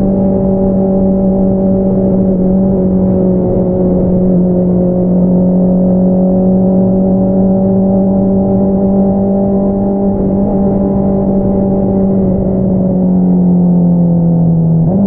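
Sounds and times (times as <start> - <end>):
motorcycle engine at steady revs: 0.0 - 15.0.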